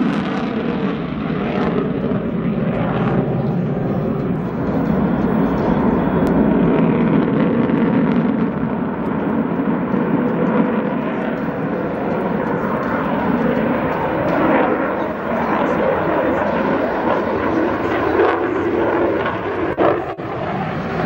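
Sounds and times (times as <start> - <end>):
loud jet engine noise: 0.0 - 21.0.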